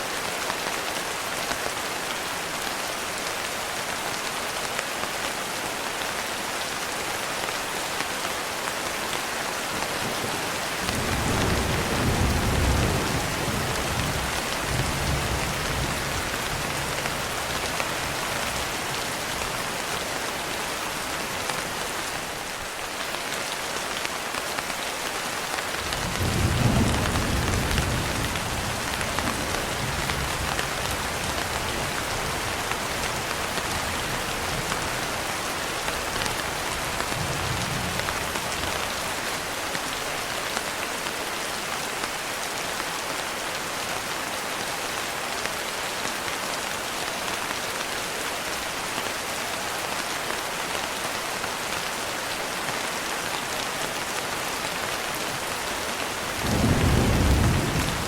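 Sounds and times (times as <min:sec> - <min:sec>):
rain falling on a window: 0:00.0 - 0:58.0.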